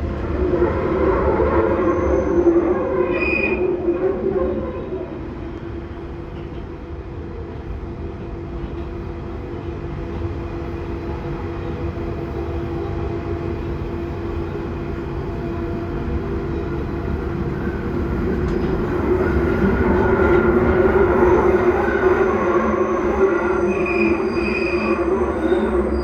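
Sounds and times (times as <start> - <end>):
high train whine: 0.0 - 26.0
underground train rumbling: 0.0 - 26.0.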